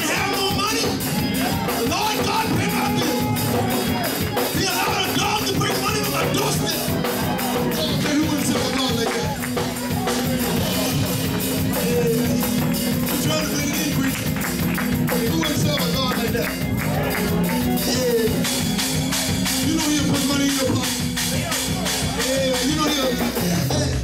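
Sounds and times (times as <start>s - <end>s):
fast driving drum beat: 0.0s - 24.0s
held low chords: 0.0s - 24.0s
voices singing and shouting: 0.0s - 24.0s.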